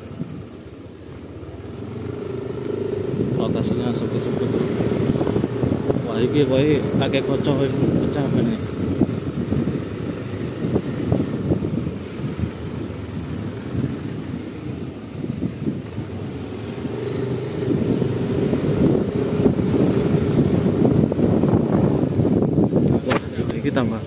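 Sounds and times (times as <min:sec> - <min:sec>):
small motorcycle running: 0:00.0 - 0:24.0
wind on microphone: 0:02.2 - 0:24.0.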